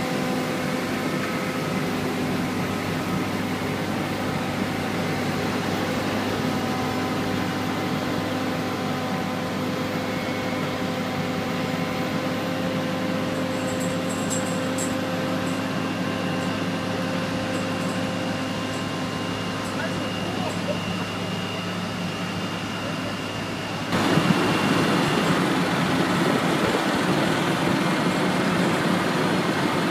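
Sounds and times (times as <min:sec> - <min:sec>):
diesel engines humming: 0:00.0 - 0:29.9.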